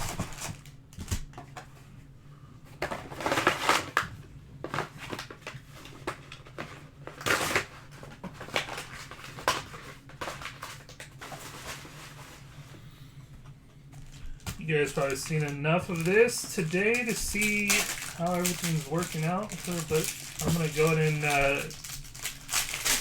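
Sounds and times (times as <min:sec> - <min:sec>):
plastic wrap and cardboard crinkling: 0:00.0 - 0:01.7, 0:02.8 - 0:04.0, 0:04.6 - 0:12.8, 0:13.9 - 0:23.0
faint steady hum: 0:00.0 - 0:23.0.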